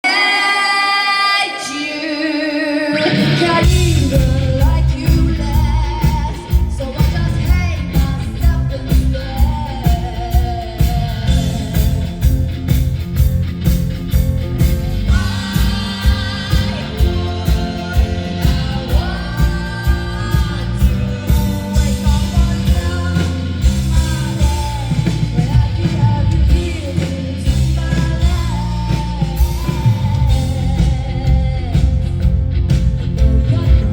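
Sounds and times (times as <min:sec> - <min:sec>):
woman singing lead: 0:00.0 - 0:13.8, 0:14.6 - 0:33.9
rock band playing: 0:02.8 - 0:33.9.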